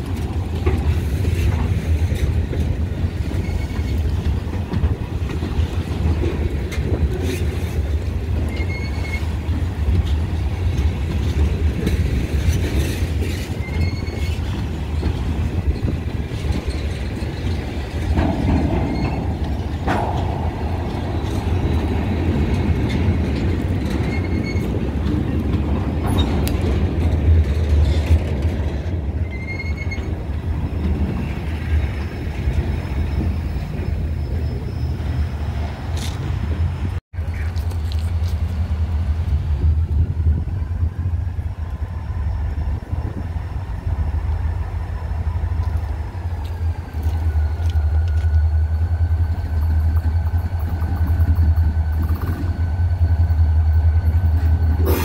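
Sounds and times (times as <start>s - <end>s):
freight train wheels rumbling: 0.0s - 55.0s
train cars clicking and clanking: 0.0s - 55.0s.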